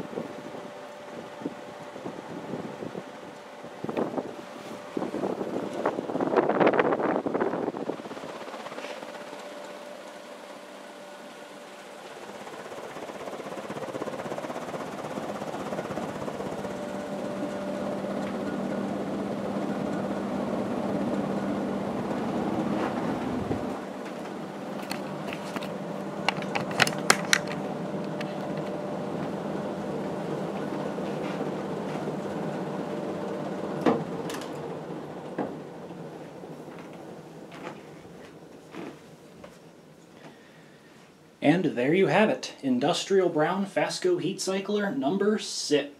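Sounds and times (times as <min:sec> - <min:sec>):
ceiling fan running: 0:00.0 - 0:45.9.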